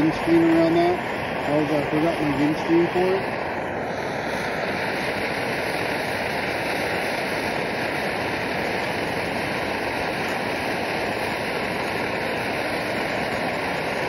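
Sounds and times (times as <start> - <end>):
camp stove burning: 0.0 - 14.0.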